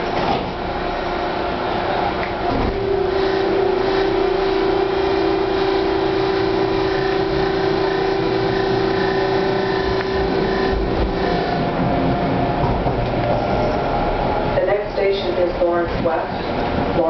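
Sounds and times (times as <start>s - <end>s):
low whine: 0.0s - 17.0s
subway car rumble: 0.0s - 17.0s.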